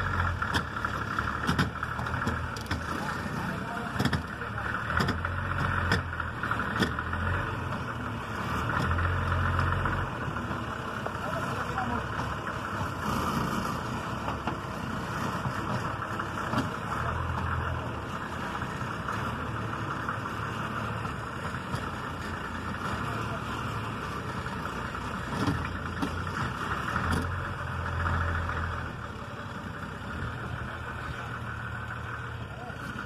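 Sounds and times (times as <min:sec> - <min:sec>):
truck engine running at low revs: 0:00.0 - 0:33.0.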